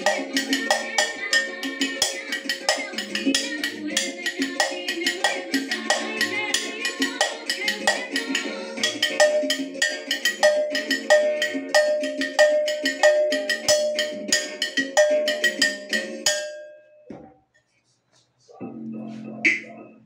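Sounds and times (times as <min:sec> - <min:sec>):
cowbell struck with a stick: 0:00.0 - 0:17.2.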